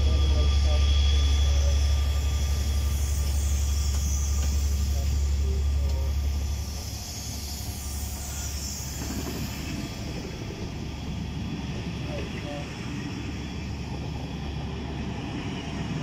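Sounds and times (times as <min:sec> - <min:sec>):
steady deep hum: 0:00.0 - 0:16.0
train wheels on rails: 0:00.0 - 0:16.0.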